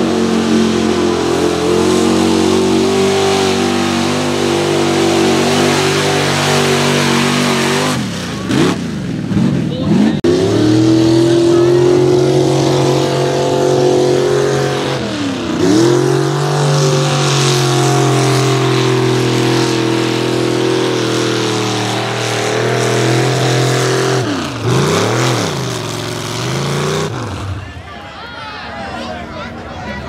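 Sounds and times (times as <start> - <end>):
truck engine at high revs: 0.0 - 27.8.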